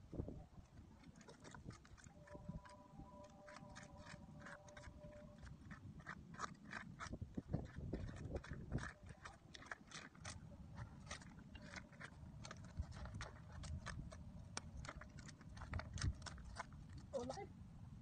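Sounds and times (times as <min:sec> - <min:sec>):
shells and stones clicking: 0:01.0 - 0:17.2.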